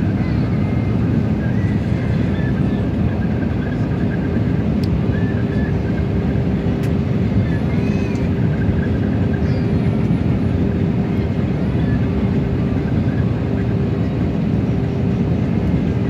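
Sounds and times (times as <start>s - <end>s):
aircraft cabin engine rush: 0.0s - 16.0s.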